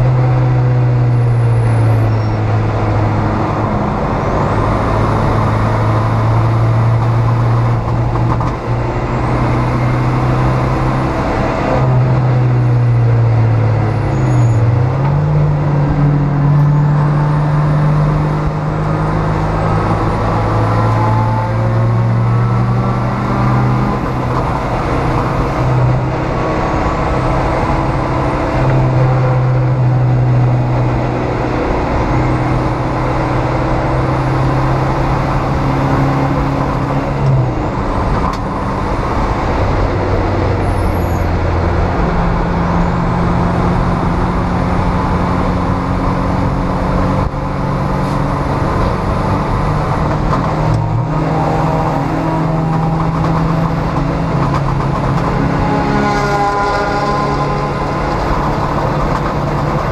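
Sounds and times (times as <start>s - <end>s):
race car engine running hard: 0.0s - 59.9s
road and wind noise: 0.0s - 59.9s.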